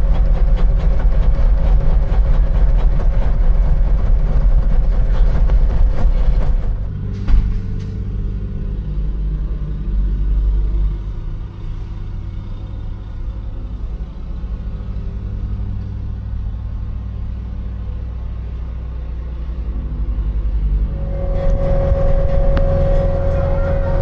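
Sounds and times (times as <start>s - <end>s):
large engine running: 0.0s - 24.0s.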